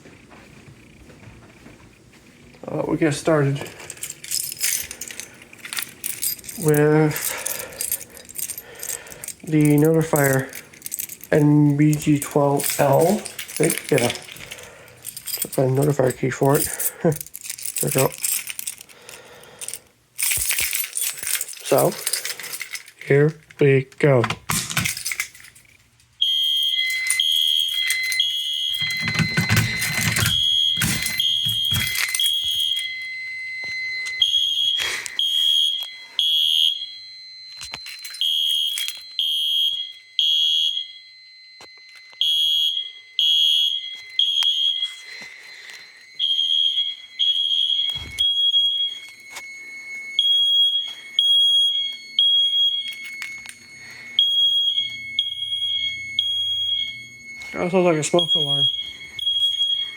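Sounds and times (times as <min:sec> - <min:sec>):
fire alarm beeping: 0:02.6 - 0:59.9.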